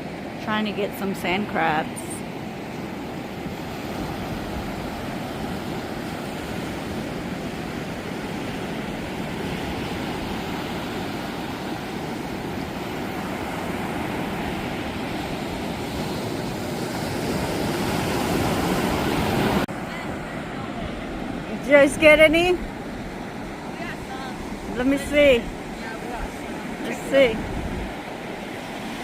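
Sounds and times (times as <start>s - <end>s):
surf washing on beach: 0.0s - 29.0s.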